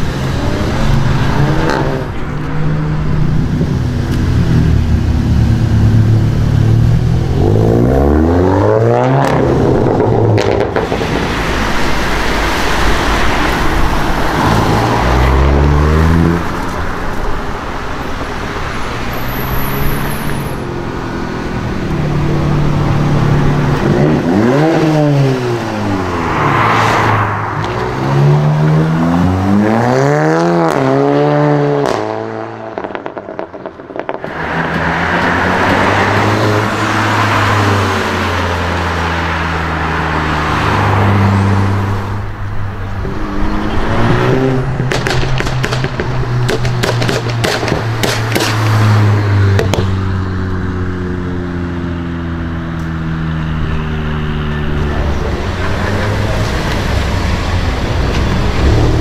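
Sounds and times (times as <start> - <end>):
car engine droning: 0.0 - 59.0
car engines accelerating hard: 0.0 - 59.0.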